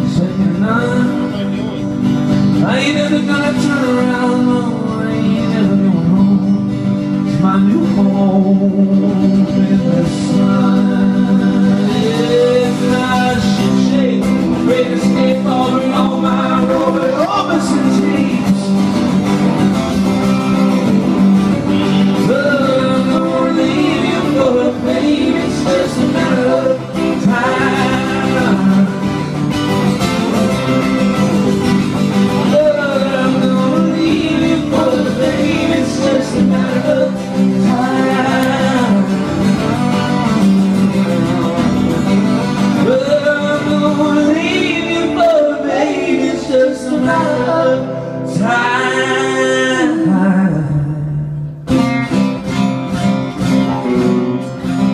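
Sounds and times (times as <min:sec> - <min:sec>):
acoustic guitar strumming: 0:00.0 - 0:54.9
electric guitar lead with bends: 0:00.0 - 0:54.9.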